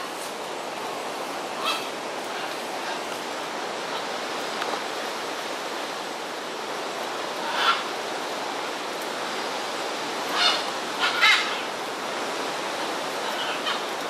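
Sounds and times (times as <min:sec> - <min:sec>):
forest ambience hiss: 0:00.0 - 0:14.0.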